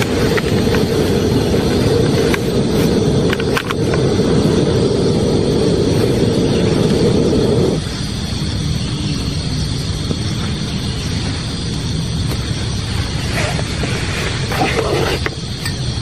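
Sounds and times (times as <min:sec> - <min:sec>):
camp stove burner roar: 0:00.0 - 0:16.0.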